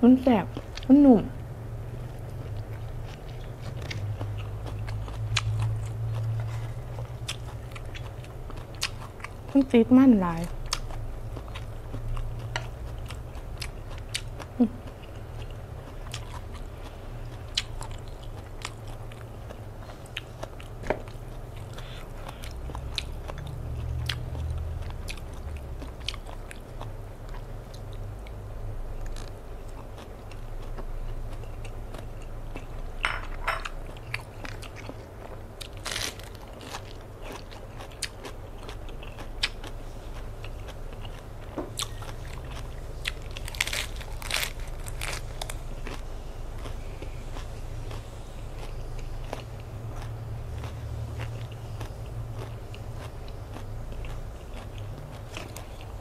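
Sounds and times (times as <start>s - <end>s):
chewing crunchy food: 0.2s - 56.0s.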